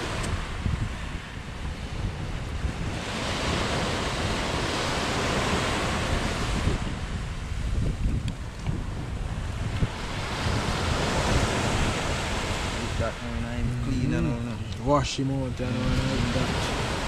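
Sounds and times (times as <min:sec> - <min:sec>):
surf washing up shore: 0:00.0 - 0:17.0
wind rumble on microphone: 0:00.0 - 0:17.0.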